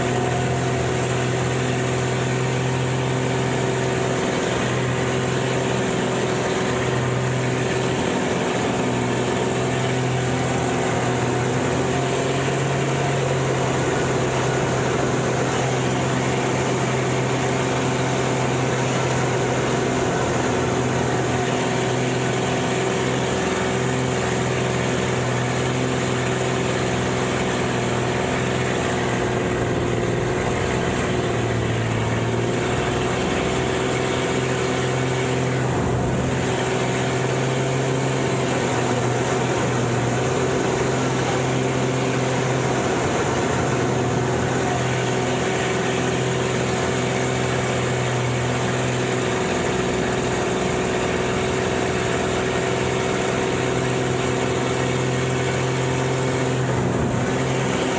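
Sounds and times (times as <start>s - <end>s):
plane engine and propeller: 0.0s - 57.9s.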